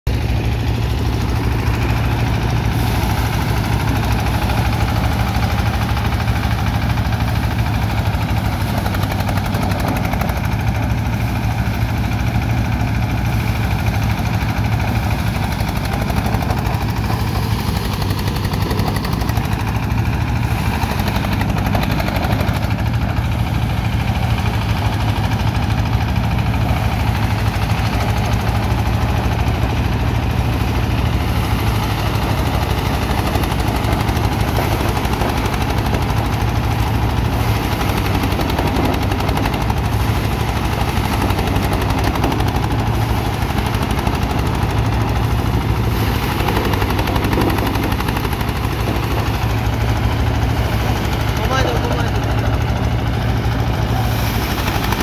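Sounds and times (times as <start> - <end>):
engine hum: 0.1 - 55.0
thresher drum and straw noise: 0.1 - 55.0.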